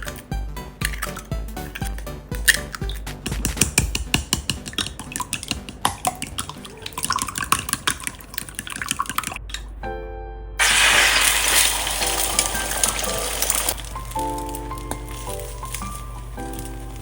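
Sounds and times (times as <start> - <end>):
utensils clicking and tapping: 0.0 - 9.7, 12.1 - 17.0.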